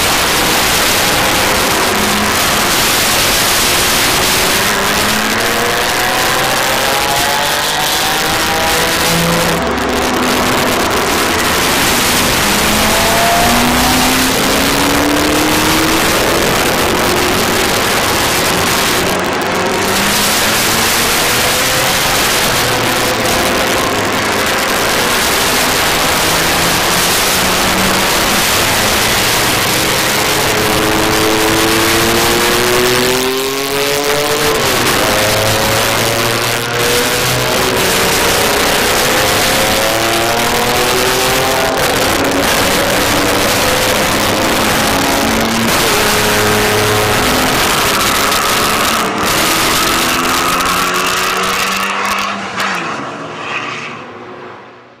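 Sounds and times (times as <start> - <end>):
cars passing by: 0.0 - 55.0
race car engines accelerating: 0.0 - 55.0.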